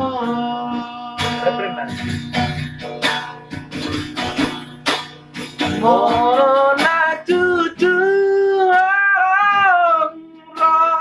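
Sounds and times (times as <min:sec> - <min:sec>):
person singing: 0:00.0 - 0:04.6, 0:05.6 - 0:11.0
guitar strumming: 0:00.0 - 0:11.0.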